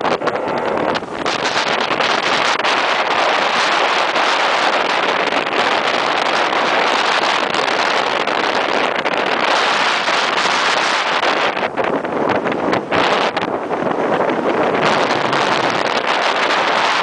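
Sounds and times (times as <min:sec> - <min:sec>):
water rushing: 0:00.0 - 0:17.0
wind rushing: 0:00.0 - 0:17.0.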